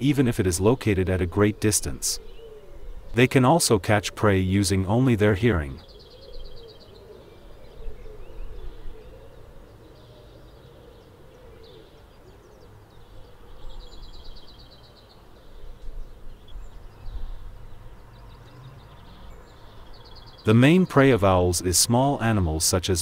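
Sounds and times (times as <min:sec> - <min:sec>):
bird trill: 0:00.0 - 0:22.7
small birds chirping: 0:00.0 - 0:23.0.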